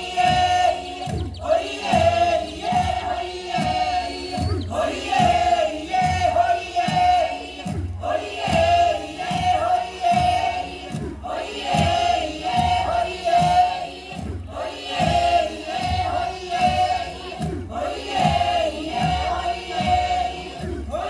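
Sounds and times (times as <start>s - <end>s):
group of voices chanting: 0.0s - 21.0s
low rhythmic thumps: 0.0s - 21.0s.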